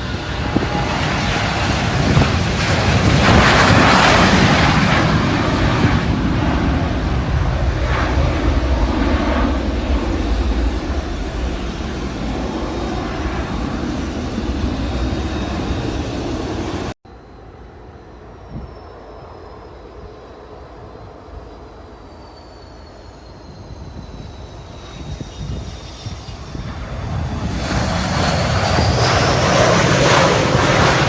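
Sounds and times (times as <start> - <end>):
jet engines running loud: 0.0 - 31.0
jet turbine whine: 0.0 - 31.0.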